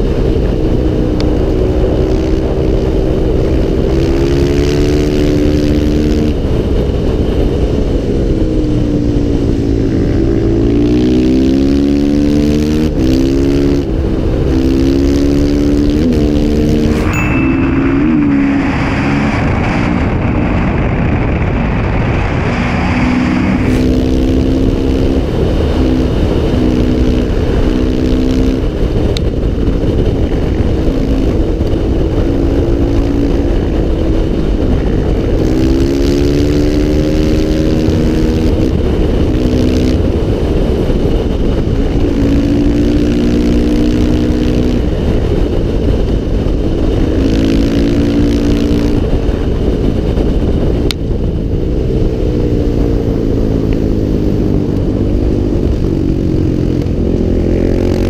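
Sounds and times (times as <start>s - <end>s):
dirt bike engine accelerating: 0.0s - 58.0s
wind rumble on microphone: 0.0s - 58.0s.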